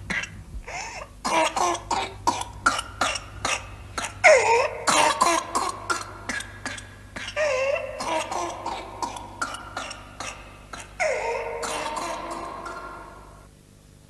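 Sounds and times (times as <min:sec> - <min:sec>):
child coughing: 0:00.1 - 0:13.5.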